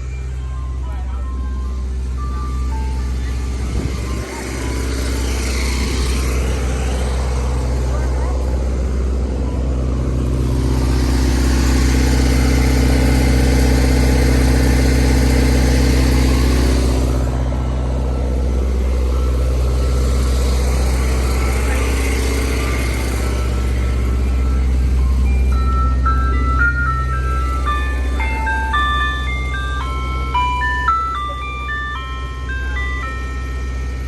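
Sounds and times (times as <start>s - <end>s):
road noise: 0.0s - 34.0s
vehicle engine drone: 0.0s - 34.0s.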